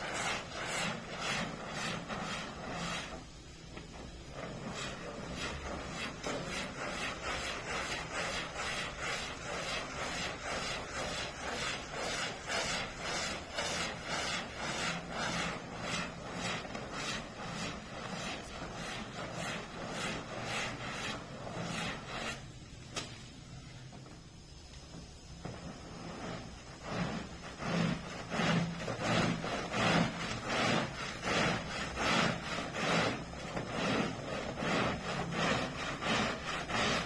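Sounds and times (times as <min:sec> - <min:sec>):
carpet being scrubbed by hand: 0:00.0 - 0:23.1, 0:25.2 - 0:37.0.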